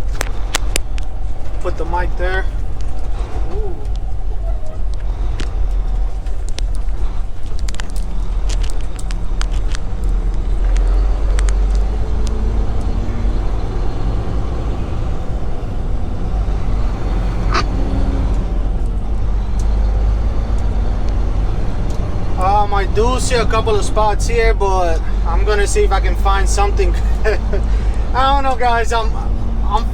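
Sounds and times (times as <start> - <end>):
truck diesel engine rumbling: 0.0 - 29.9.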